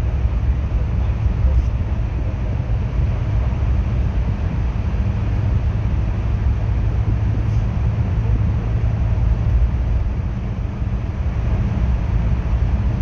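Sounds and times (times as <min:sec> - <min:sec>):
bus engine drone: 0:00.0 - 0:13.0
road noise: 0:00.0 - 0:13.0.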